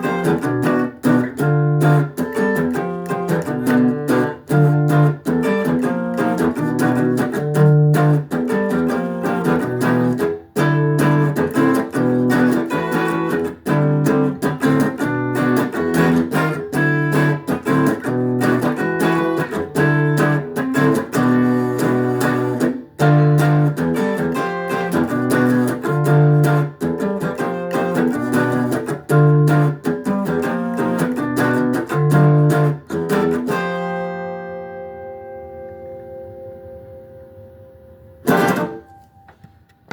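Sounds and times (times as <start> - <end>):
guitar playing: 0.0 - 39.9.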